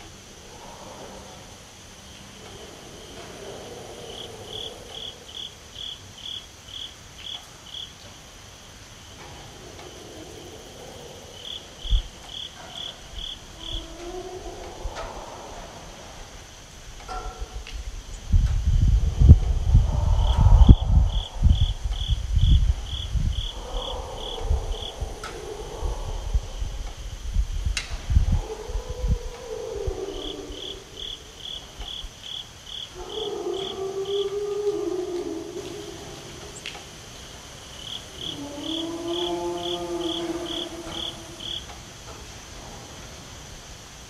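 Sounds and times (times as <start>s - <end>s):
long low howl: 0.0s - 6.4s, 9.1s - 44.0s
pulsed insect chirp: 0.0s - 16.9s, 19.6s - 27.5s, 30.0s - 34.4s, 35.2s - 42.4s
insects trilling: 0.0s - 44.0s.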